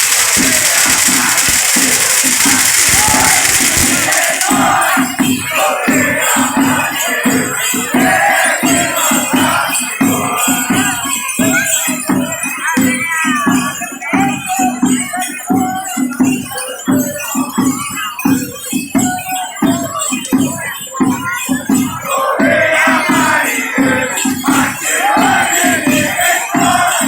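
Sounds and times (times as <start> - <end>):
drums beating a rhythm: 0.0 - 27.0
people singing: 0.0 - 27.0
shakers and rattles jingling: 0.0 - 27.0.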